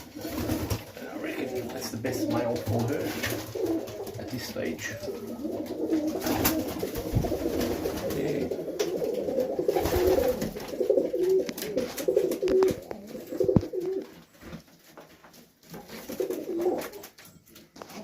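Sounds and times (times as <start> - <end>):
pigeons cooing: 0.0 - 14.6, 15.8 - 17.2.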